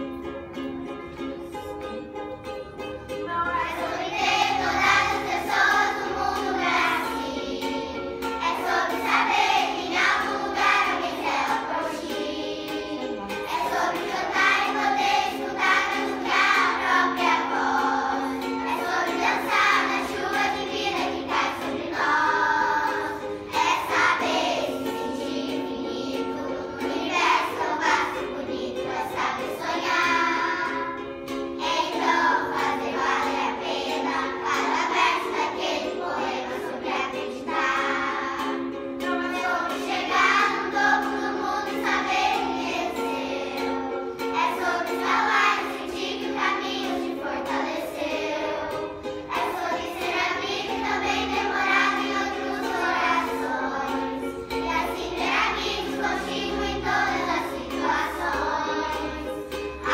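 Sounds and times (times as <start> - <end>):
children's choir singing: 0.0 - 59.9.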